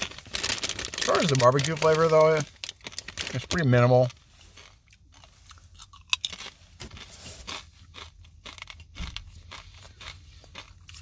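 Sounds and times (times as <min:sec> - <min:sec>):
person crunching chips: 0:00.0 - 0:11.0.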